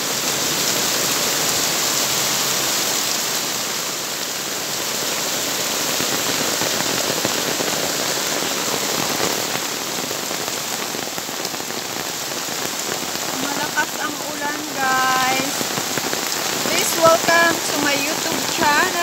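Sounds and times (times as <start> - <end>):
heavy rain on pavement and cars: 0.0 - 19.0.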